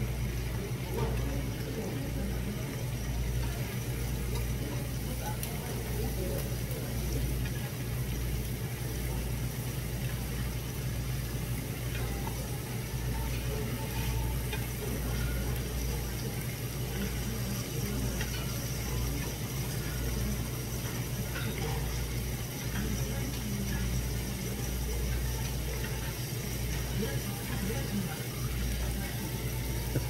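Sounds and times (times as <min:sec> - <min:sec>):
meat sizzling on a grill plate: 0:00.0 - 0:30.0.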